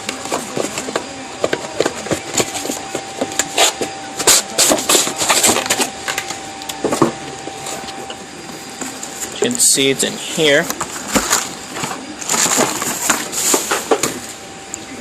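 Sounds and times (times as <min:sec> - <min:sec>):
speaker being handled and scraped: 0:00.0 - 0:09.4, 0:10.0 - 0:14.4.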